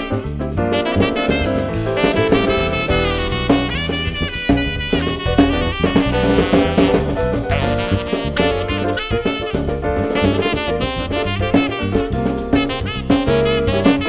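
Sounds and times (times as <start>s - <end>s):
drum kit: 0.0s - 14.0s
guitar accompaniment: 0.0s - 14.0s
saxophone melody: 0.0s - 14.0s.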